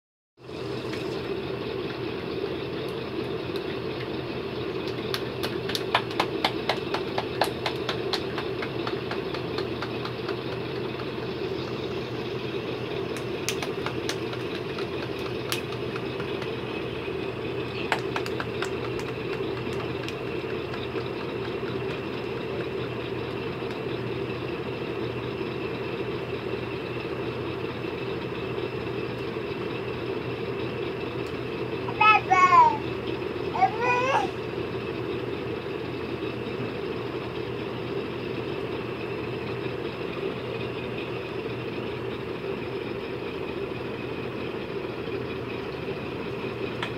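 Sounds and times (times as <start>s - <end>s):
mechanical hum with low drone: 0.4s - 46.9s.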